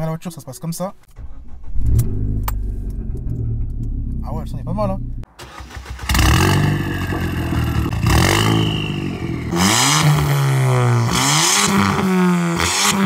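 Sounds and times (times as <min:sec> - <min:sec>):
car engine revving: 0:01.1 - 0:13.0.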